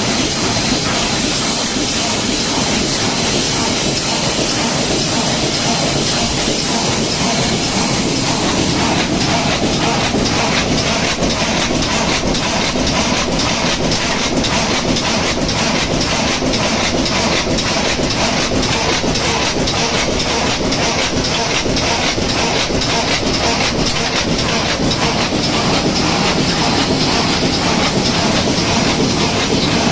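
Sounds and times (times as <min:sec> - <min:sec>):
die cutting machine clattering: 0:00.0 - 0:29.9.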